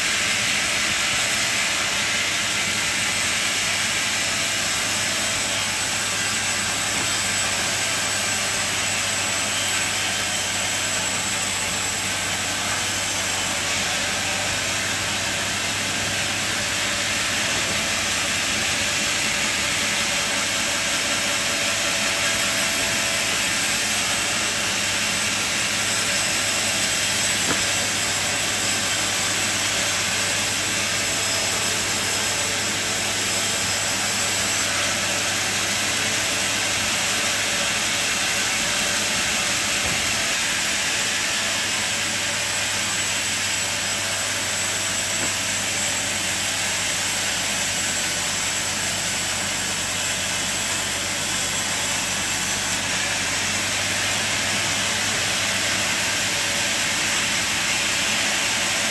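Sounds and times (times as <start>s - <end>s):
sawmill machine running: 0.0s - 58.9s.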